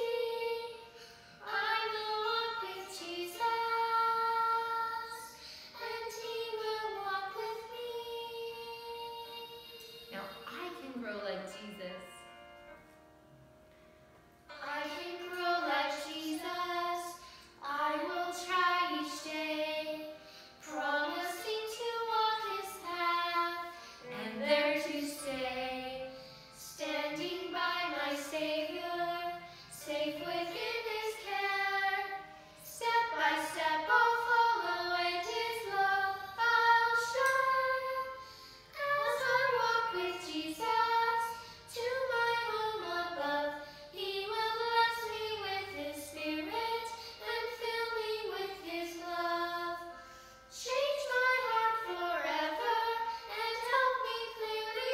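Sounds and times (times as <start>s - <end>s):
boy and woman singing: 0.0s - 10.7s, 14.5s - 38.2s, 38.8s - 49.8s, 50.6s - 54.9s
recorded music: 0.0s - 54.9s.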